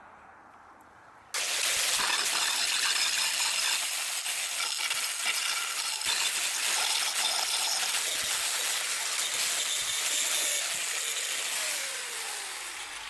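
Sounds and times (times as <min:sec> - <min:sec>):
angle grinder abrading steel: 0:01.4 - 0:13.0.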